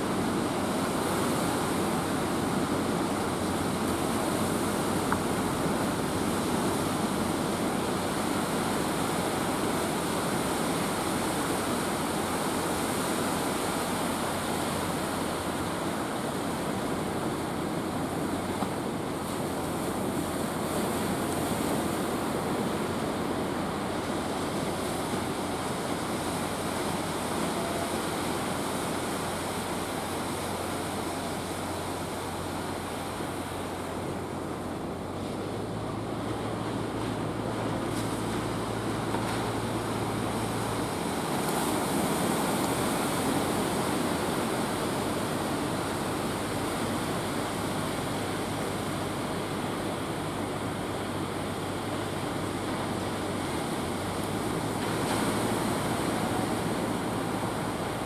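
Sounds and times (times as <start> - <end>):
heavy surf breaking on shore: 0.0 - 58.0.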